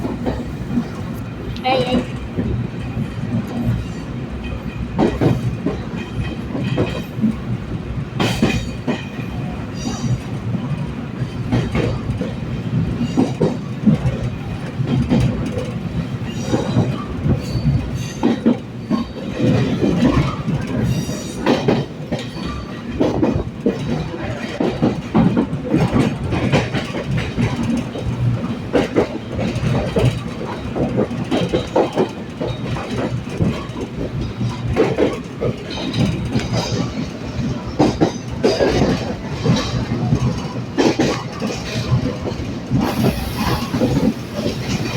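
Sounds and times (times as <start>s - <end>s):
train rumble: 0.0s - 44.9s
wheels clacking over rail joints: 1.9s - 7.6s, 8.2s - 44.9s.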